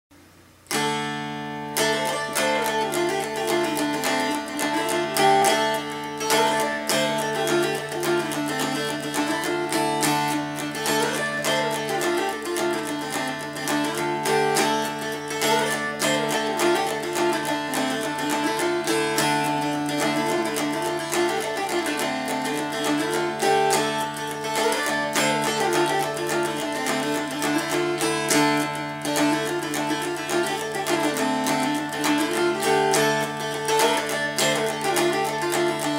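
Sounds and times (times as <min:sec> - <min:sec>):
strummed dulcimer fiddle tune: 0:00.7 - 0:35.9.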